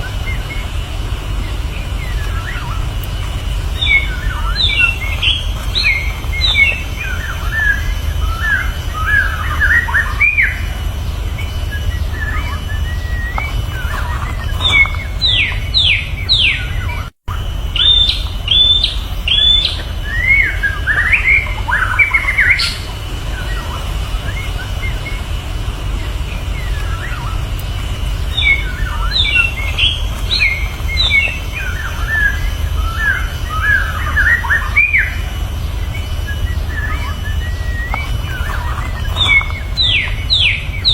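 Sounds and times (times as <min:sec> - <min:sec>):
bird singing whistled phrases: 0:00.0 - 0:40.9
steady low rumble: 0:00.0 - 0:40.9.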